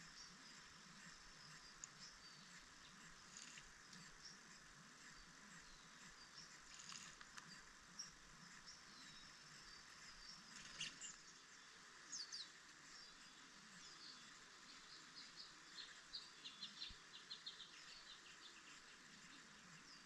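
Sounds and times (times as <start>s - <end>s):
background hiss: 0.0s - 20.0s
faint birdsong: 0.0s - 20.0s.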